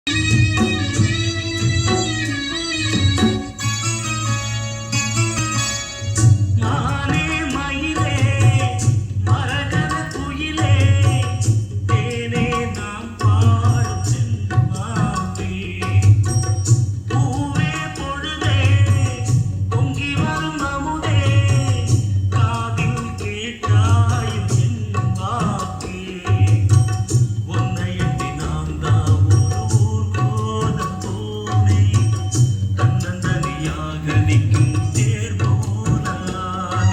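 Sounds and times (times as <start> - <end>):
heavy bass line: 0.1 - 36.9
tabla-like hand drum strokes: 0.1 - 36.9.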